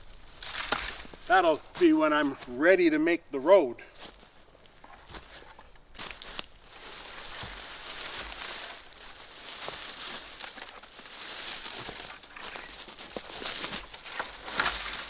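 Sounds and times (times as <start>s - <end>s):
footsteps on dry leaves and twigs: 0.0s - 15.0s.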